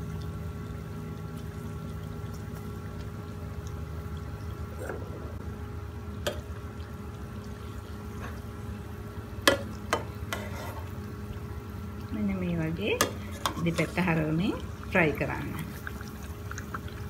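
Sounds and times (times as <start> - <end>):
buns sizzling in hot oil: 0.0 - 17.0.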